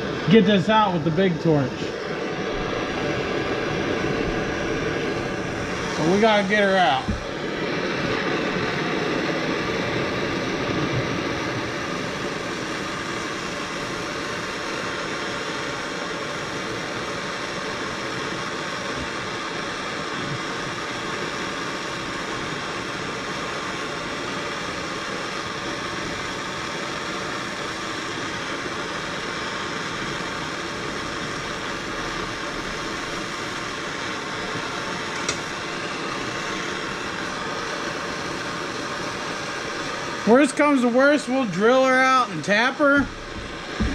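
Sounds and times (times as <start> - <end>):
gas torch hissing: 0.0 - 43.9.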